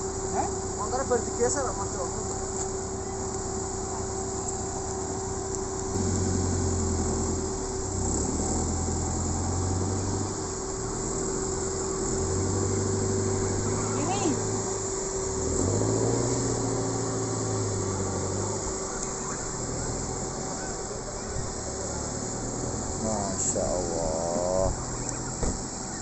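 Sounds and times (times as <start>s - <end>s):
insect drone: 0.0s - 26.0s
vehicle engine running: 0.0s - 26.0s.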